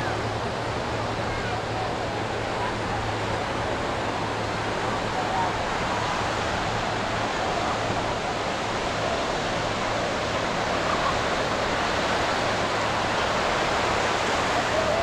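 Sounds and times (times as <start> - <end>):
waves breaking on a beach: 0.0 - 15.0.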